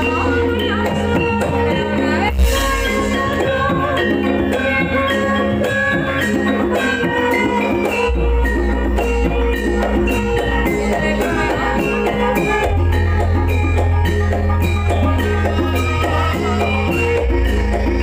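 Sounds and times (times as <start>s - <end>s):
drums: 0.0s - 18.0s
metallophones playing melody: 0.0s - 18.0s.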